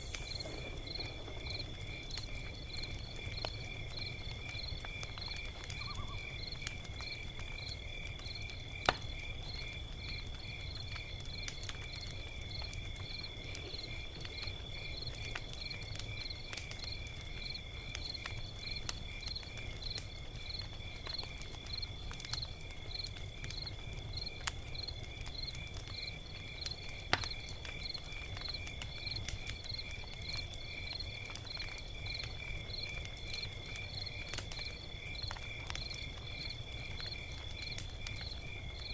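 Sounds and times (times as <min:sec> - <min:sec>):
crickets chirping: 0:00.0 - 0:38.9
log fire crackling: 0:00.0 - 0:38.9.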